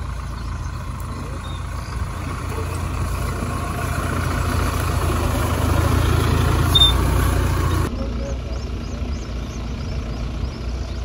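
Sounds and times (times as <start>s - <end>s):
vehicle engine rumbling under load: 0.0s - 11.0s.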